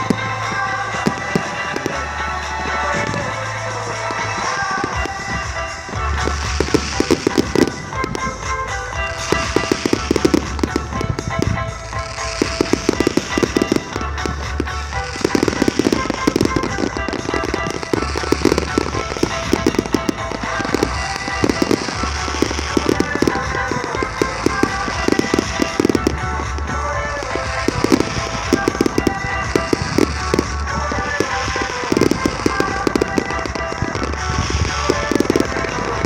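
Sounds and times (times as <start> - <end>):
fireworks bangs and crackles: 0.0 - 36.0
rhythmic music with steady beat: 0.0 - 36.0.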